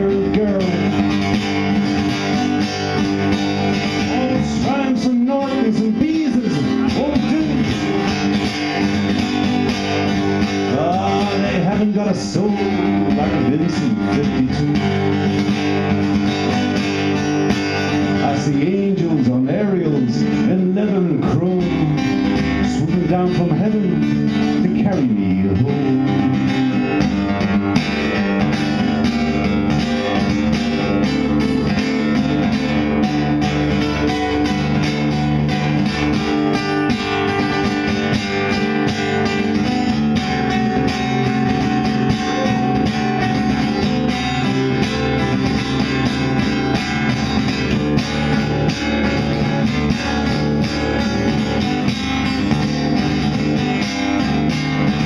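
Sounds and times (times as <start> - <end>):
acoustic guitar picking: 0.0 - 55.0.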